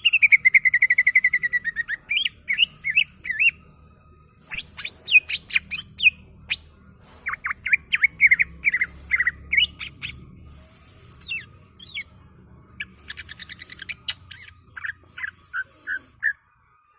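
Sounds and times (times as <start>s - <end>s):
bird chirping and whistling: 0.0s - 3.6s, 4.4s - 10.3s, 11.1s - 12.1s, 12.8s - 16.4s.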